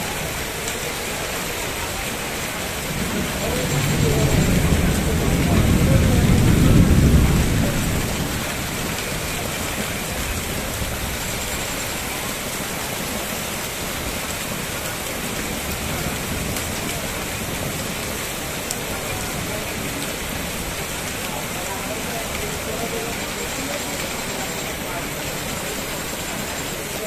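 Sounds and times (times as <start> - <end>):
rain falling on water: 0.0 - 27.0.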